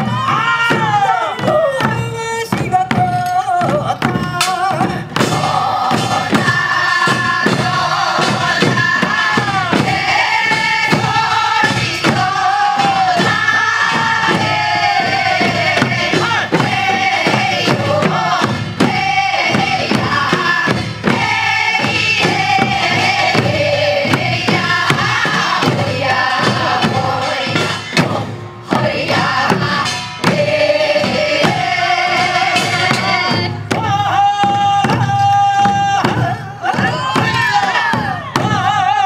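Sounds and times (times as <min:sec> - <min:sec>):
barrel drum beating: 0:00.0 - 0:39.0
group singing folk song: 0:00.0 - 0:39.0.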